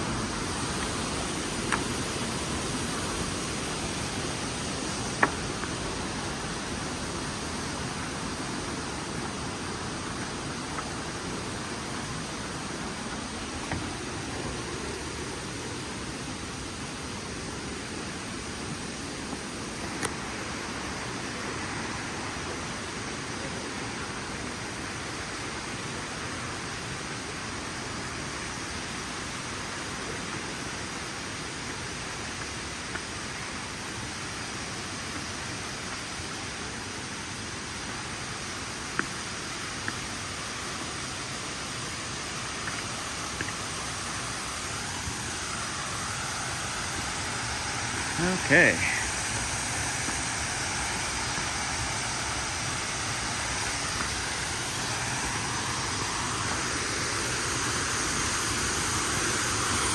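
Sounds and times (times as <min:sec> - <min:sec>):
falling water rushing: 0:00.0 - 0:59.9.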